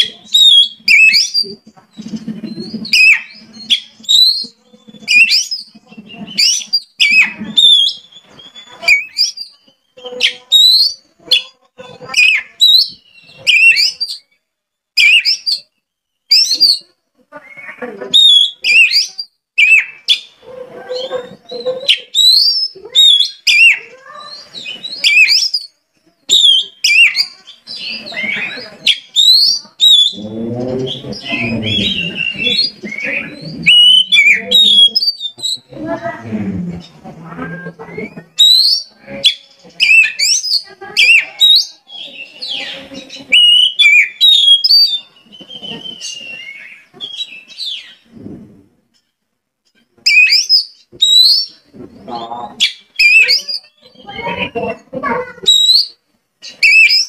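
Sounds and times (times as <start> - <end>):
magpie-robin singing: 0.0 - 14.4, 15.0 - 36.2, 36.8 - 48.1, 50.0 - 54.6, 55.4 - 57.0.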